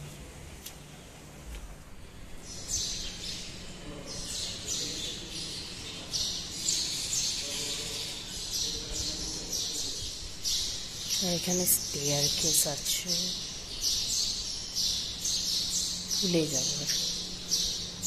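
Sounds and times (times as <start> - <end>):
birds chirping: 1.8 - 18.0.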